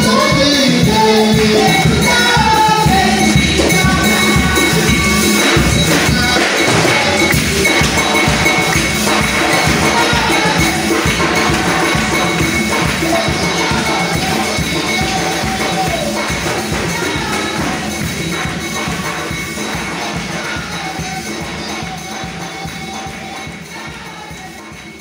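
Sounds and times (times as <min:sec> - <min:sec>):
person singing: 0:00.0 - 0:25.0
tambourine and drum beat: 0:00.0 - 0:25.0
worship music: 0:00.0 - 0:25.0.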